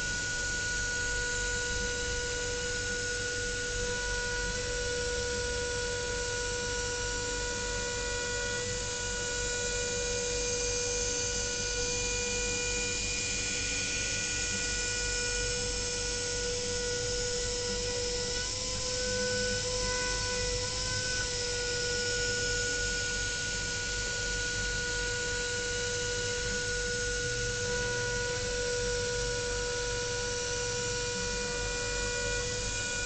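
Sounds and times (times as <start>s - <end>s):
machine spindle whine: 0.0s - 33.0s.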